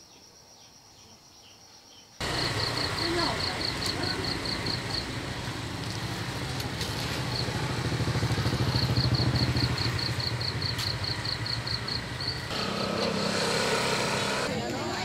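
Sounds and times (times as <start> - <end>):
small motorcycle engine running: 2.2 - 15.0.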